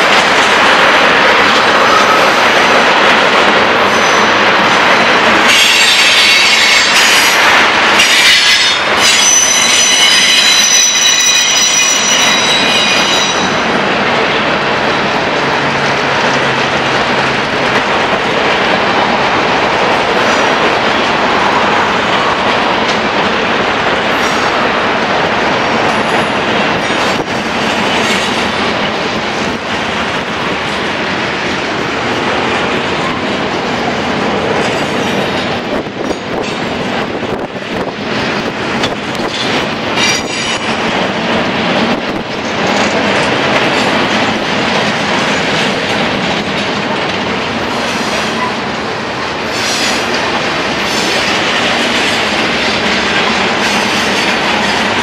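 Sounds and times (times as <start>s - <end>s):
clacks over rail joints: 0.0s - 55.0s
steel wheels on rail: 0.0s - 55.0s.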